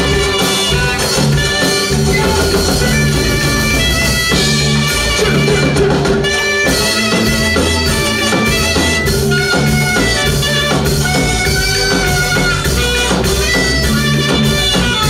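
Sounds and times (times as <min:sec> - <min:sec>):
bass line: 0:00.0 - 0:15.0
drum kit beat: 0:00.0 - 0:15.0
gospel band playing: 0:00.0 - 0:15.0.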